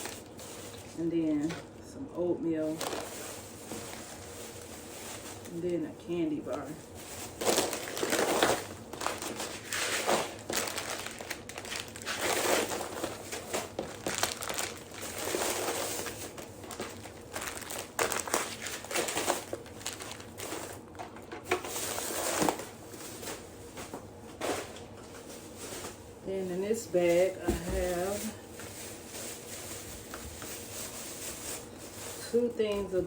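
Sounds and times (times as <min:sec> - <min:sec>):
plastic bags rustling: 0:00.0 - 0:01.8, 0:02.5 - 0:33.0.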